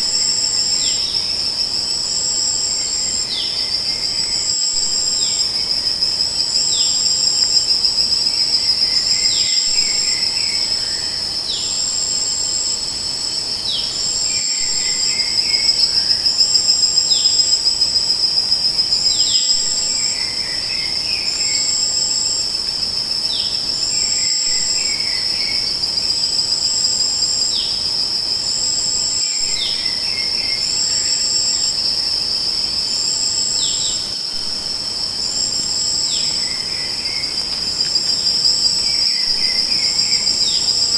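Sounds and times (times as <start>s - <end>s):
crickets trilling: 0.0s - 40.9s
pulsing insect call: 0.0s - 40.9s.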